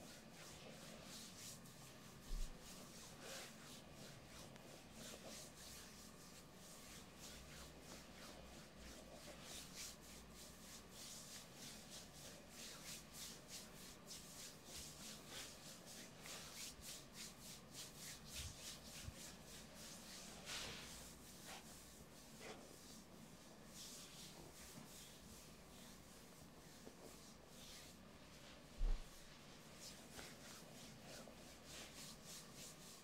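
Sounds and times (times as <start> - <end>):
hands rubbing oiled skin: 0.0 - 33.0.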